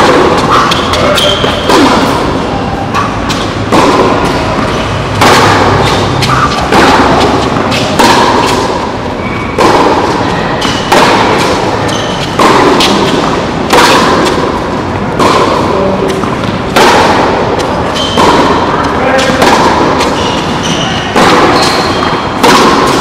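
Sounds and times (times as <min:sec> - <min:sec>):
tennis racket hitting ball: 0:00.0 - 0:23.0.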